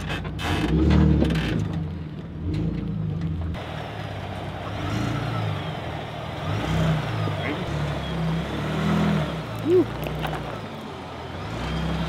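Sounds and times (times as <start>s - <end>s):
truck engine at low revs: 0.0s - 12.0s.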